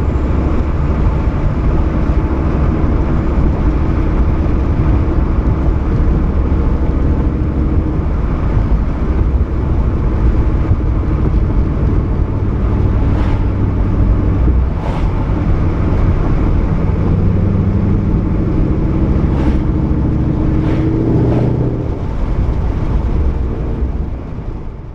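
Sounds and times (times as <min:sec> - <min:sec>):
car engine droning while driving: 0:00.0 - 0:24.9
exhaust crackles: 0:00.0 - 0:24.9.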